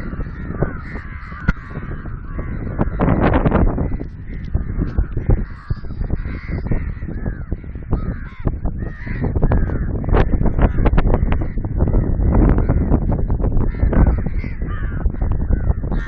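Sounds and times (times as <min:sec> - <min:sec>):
crows cawing: 0:00.0 - 0:16.0.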